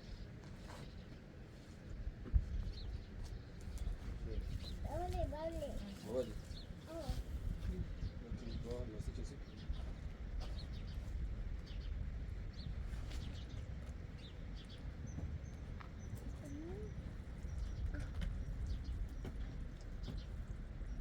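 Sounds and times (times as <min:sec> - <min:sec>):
birds chirping: 0:02.7 - 0:21.0.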